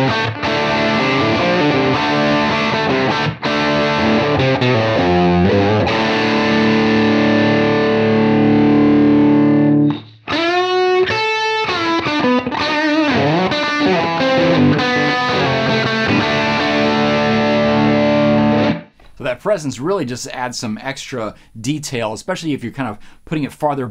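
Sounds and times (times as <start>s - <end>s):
distorted electric guitar: 0.0s - 19.2s.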